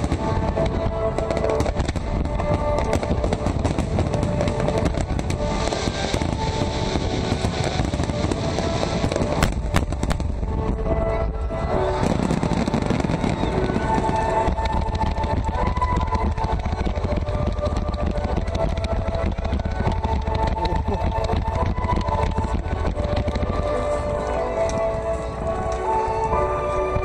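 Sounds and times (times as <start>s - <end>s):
fireworks bursting and crackling: 0.0s - 27.0s
music playing: 0.0s - 27.0s.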